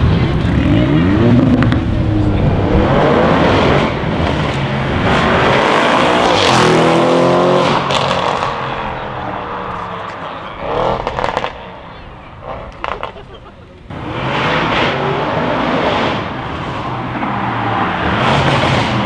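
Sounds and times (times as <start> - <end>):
car engine accelerating hard: 0.0 - 13.2, 13.9 - 19.0.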